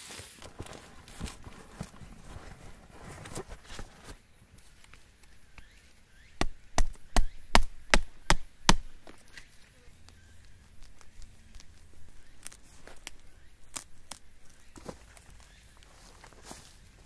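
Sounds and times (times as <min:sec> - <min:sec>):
faint clicks and rustles: 0:00.2 - 0:06.0, 0:09.0 - 0:17.0.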